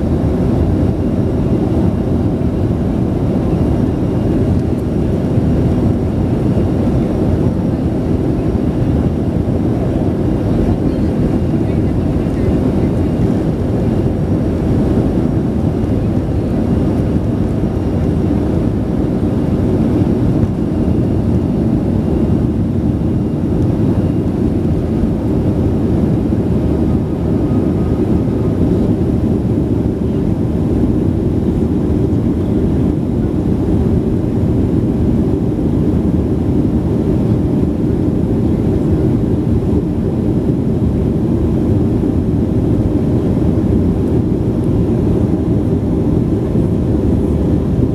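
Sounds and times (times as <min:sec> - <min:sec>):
jet engine cabin rumble: 0:00.0 - 0:47.9.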